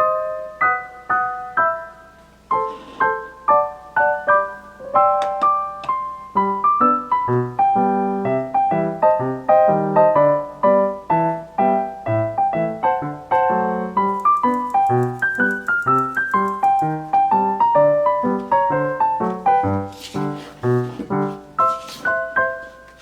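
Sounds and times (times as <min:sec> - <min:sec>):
piano melody: 0:00.0 - 0:23.0.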